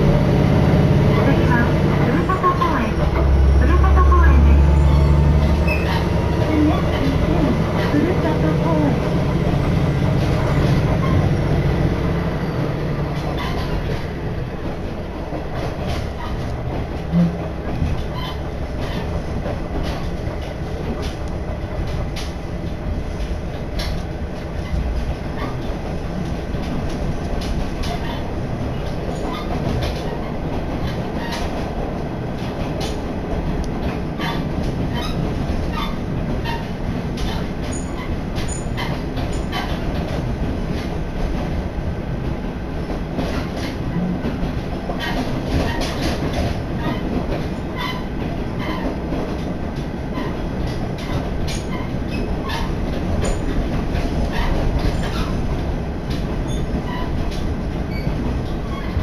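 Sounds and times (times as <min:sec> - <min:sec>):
train rumble inside carriage: 0:00.0 - 0:59.0
wheels clicking on track: 0:00.0 - 0:59.0.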